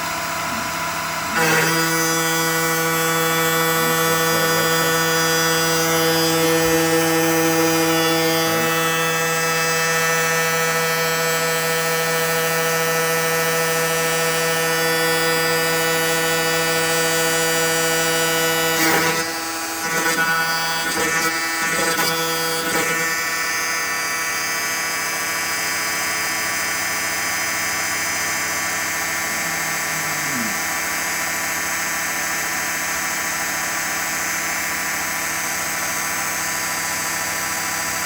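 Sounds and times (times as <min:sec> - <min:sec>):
machine whining hum: 0:00.0 - 0:38.0.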